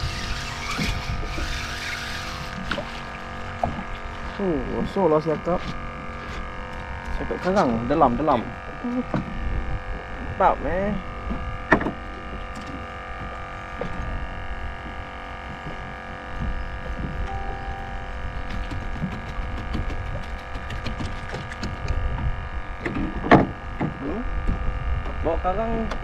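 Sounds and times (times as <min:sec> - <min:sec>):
droning hum: 0:00.0 - 0:26.0.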